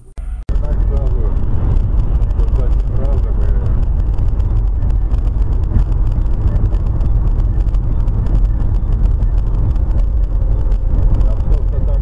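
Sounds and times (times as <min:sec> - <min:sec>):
car road noise at highway speed: 0:00.0 - 0:12.0.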